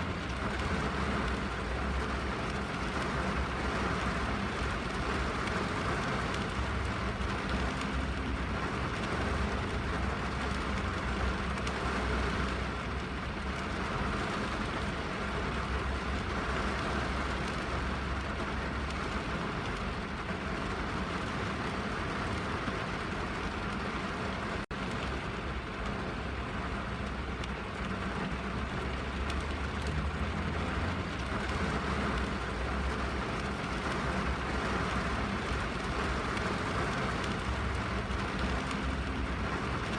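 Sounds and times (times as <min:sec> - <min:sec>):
rain on car roof and windows: 0:00.0 - 0:39.9.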